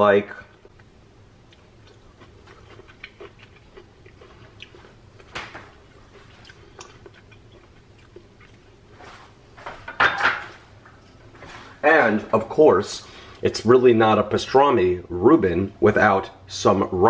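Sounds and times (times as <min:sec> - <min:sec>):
low room noise: 0:00.0 - 0:17.0.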